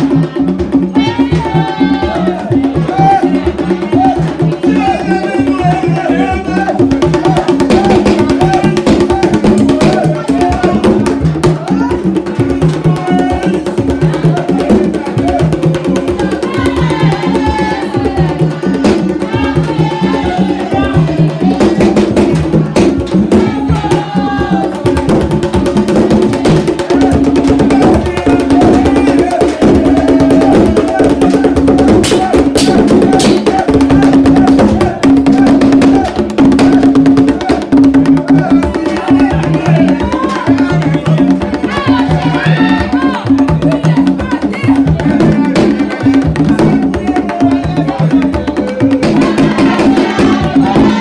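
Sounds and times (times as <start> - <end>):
drums playing fast rhythm: 0.0 - 51.0
group of voices singing: 0.0 - 51.0.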